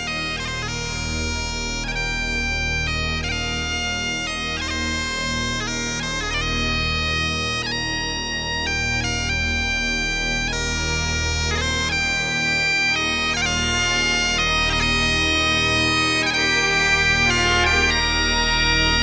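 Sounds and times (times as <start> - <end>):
bagpipe melody over drones: 0.0 - 19.0.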